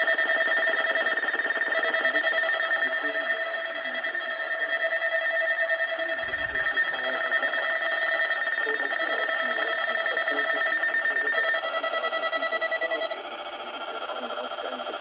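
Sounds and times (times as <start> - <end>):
weather radio alarms beeping: 0.0 - 15.0.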